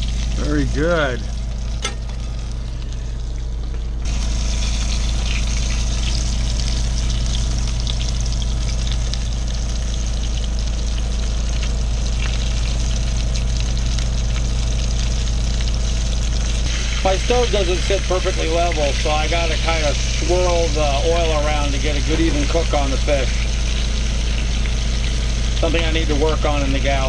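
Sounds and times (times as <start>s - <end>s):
low hum: 0.0s - 27.0s
oil sizzling and crackling in a skillet: 0.0s - 27.0s.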